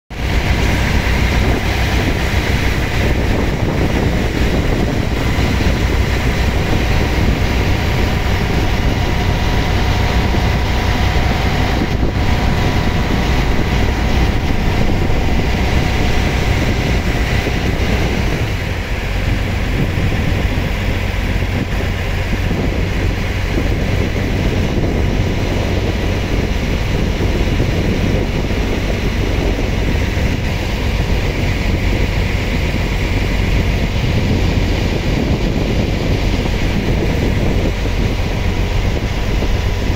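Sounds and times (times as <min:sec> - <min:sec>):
wind: 0:00.0 - 0:39.9
motorboat engine running: 0:00.1 - 0:39.9
rushing water: 0:00.1 - 0:39.9.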